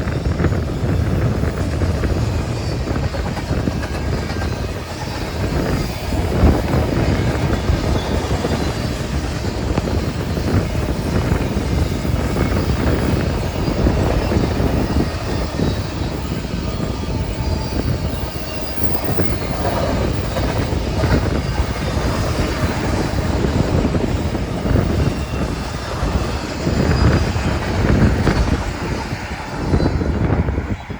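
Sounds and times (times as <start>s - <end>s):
steel wheels rumbling on rail: 0.0s - 30.9s
train cars clanking: 0.0s - 30.9s.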